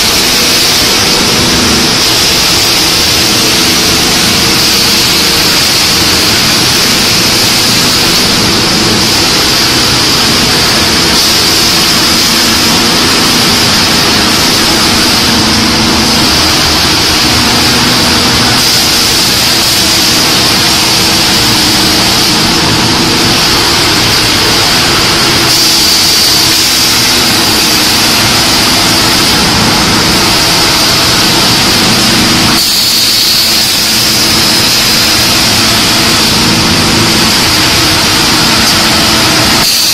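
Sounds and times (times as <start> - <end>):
high hiss: 0.0 - 39.9
industrial machinery din: 0.0 - 39.9.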